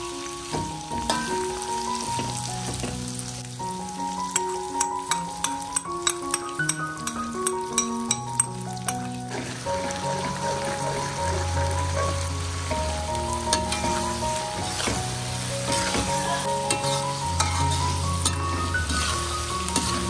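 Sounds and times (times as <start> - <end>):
food sizzling in a hot pan: 0.0 - 20.0.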